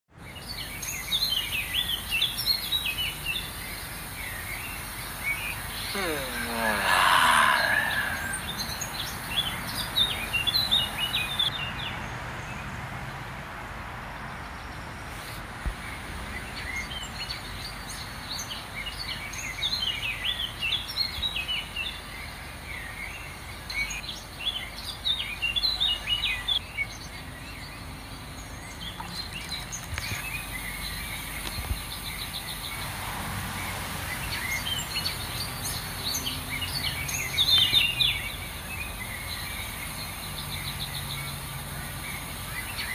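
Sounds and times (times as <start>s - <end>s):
small birds chirping: 0.1s - 12.6s, 14.4s - 32.9s, 33.6s - 42.9s
outdoor background hiss: 0.1s - 42.9s.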